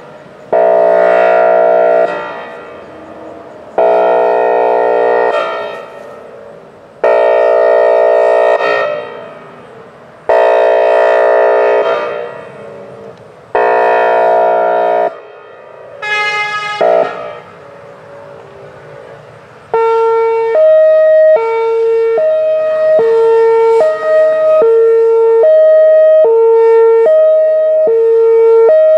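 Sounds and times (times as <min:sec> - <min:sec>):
hi-lo siren tones: 0:00.0 - 0:09.6, 0:10.3 - 0:28.9
siren air horn blasts: 0:00.0 - 0:18.4, 0:19.0 - 0:28.9.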